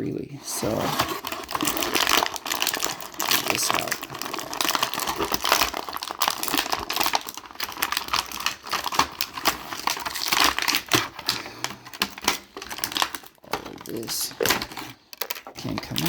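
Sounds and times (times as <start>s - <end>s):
plastic blister tray crinkling: 0.6s - 16.0s.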